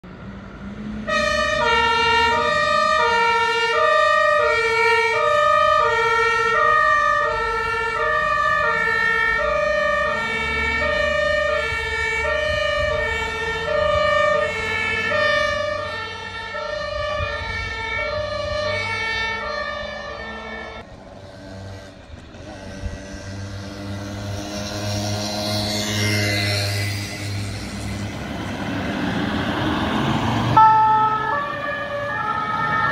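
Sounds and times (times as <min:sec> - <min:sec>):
two-tone fire engine siren: 0:00.0 - 0:21.0, 0:24.1 - 0:32.9
vehicle engine rumbling: 0:03.9 - 0:32.9.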